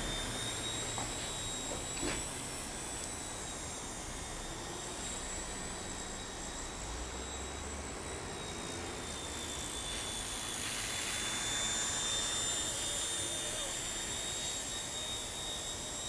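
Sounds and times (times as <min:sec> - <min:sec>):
toy helicopter whine and whirr: 0:00.0 - 0:16.0.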